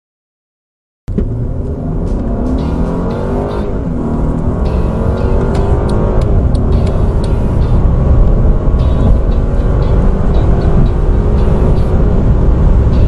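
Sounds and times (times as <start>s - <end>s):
car engine accelerating: 1.1s - 13.0s.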